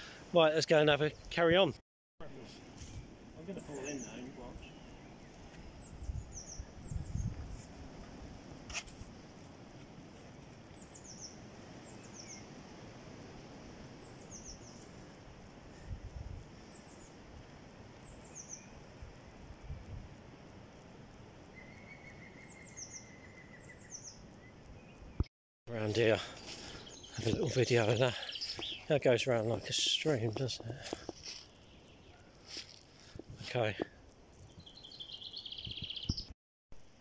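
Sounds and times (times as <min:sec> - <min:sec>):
songbird singing: 0:00.5 - 0:08.2, 0:10.1 - 0:15.5, 0:16.4 - 0:37.0.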